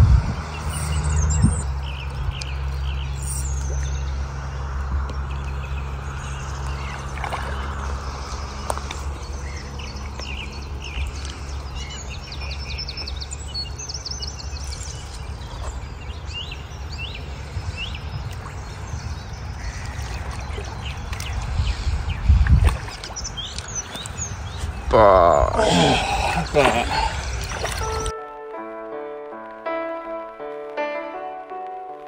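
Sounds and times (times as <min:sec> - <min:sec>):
small birds chirping: 0:00.0 - 0:28.1
steady low rumble: 0:00.0 - 0:28.1.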